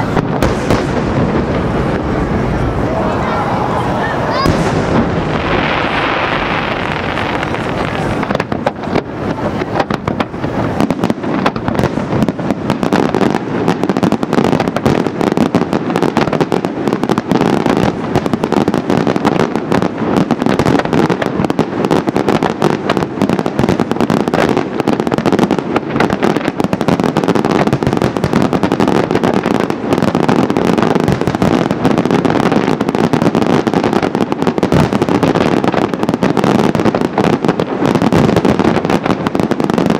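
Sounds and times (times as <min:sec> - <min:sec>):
fireworks bursts and crackling: 0:00.0 - 0:39.9.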